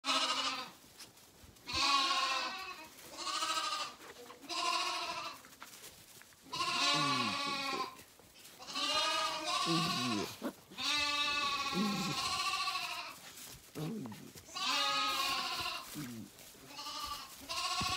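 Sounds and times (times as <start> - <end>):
lambs bleating: 0.0 - 0.8, 1.6 - 5.5, 6.4 - 17.9.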